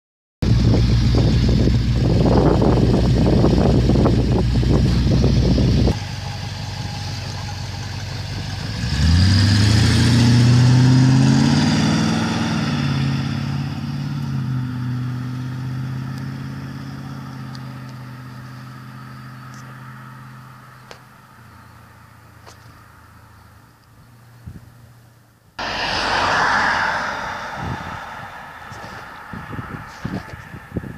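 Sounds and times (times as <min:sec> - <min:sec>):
car engine and exhaust: 0:00.4 - 0:30.9.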